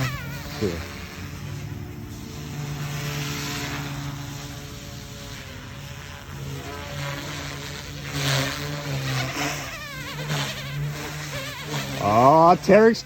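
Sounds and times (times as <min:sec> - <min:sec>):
rc helicopter rotor whirring: 0:00.0 - 0:13.0.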